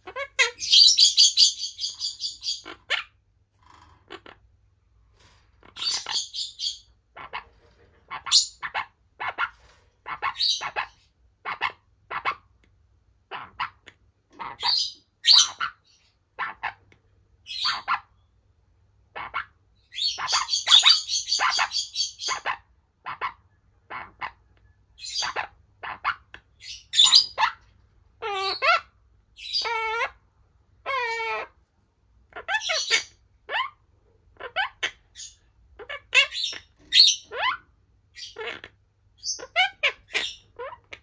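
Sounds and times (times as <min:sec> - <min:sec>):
parakeet chirping and squawking: 0:00.0 - 0:18.3, 0:19.0 - 0:41.0.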